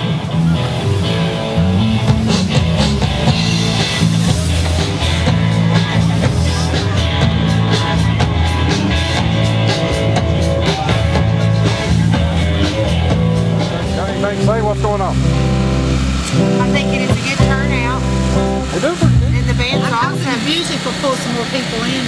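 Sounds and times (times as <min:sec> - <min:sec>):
drums: 0:00.0 - 0:22.0
guitar: 0:00.0 - 0:22.0
live rock band: 0:00.0 - 0:22.0.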